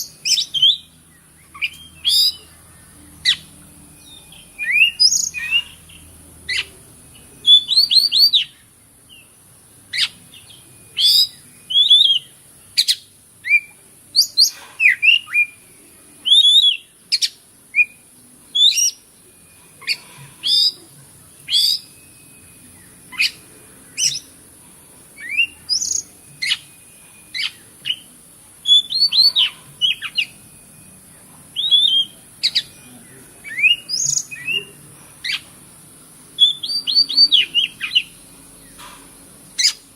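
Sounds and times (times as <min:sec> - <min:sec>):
bird singing whistles and chirps: 0:00.0 - 0:09.3, 0:09.9 - 0:24.4, 0:25.2 - 0:35.5, 0:36.4 - 0:39.9
steady high hiss: 0:00.0 - 0:39.9.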